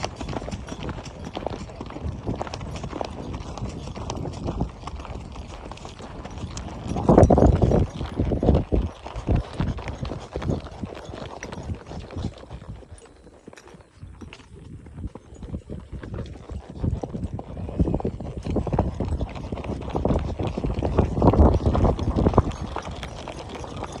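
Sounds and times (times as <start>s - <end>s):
horse hoofbeats clip-clopping: 0.0s - 24.0s.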